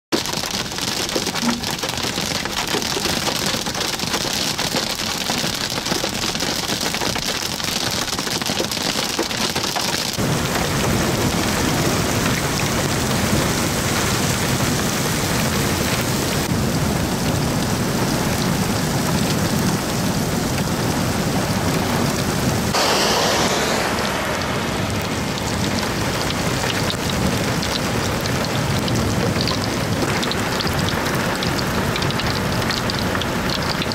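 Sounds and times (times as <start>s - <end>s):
hail and rain pelting down: 0.1s - 33.9s.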